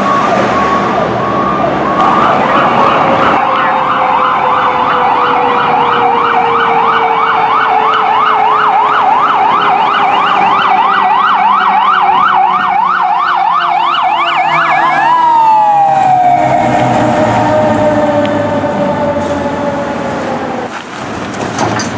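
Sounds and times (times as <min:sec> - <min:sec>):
fire truck siren: 0:00.0 - 0:20.9
truck engine rumble: 0:00.0 - 0:21.9.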